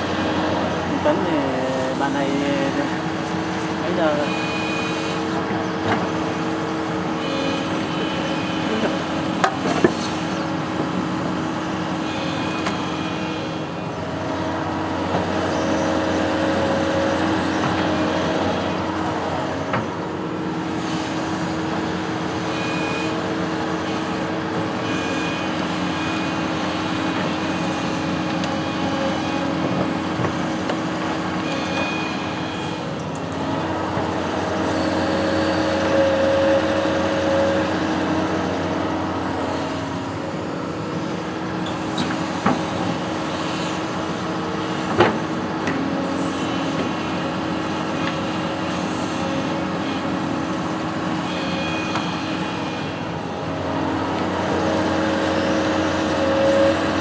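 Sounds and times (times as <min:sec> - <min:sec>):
construction machine engine running: 0:00.0 - 0:57.0.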